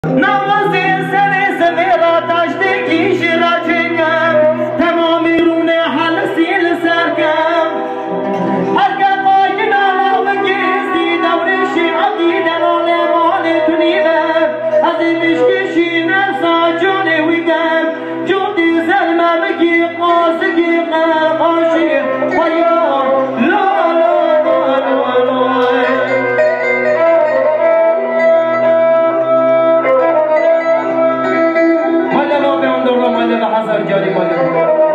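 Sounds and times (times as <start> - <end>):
electronic keyboards: 0.0 - 34.9
man singing through microphone: 0.0 - 34.9.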